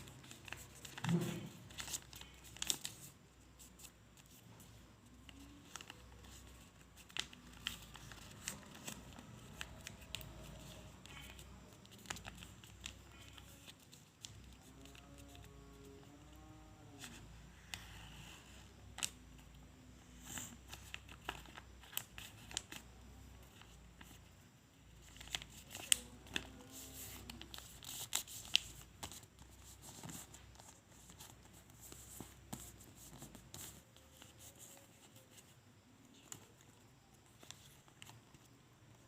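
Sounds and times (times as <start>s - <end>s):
paper crinkling and rustling: 0.0s - 17.2s, 20.2s - 39.0s.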